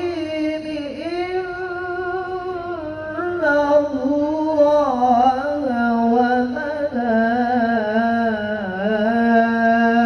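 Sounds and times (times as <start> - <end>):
melodic recitation by one voice: 0.0 - 10.0.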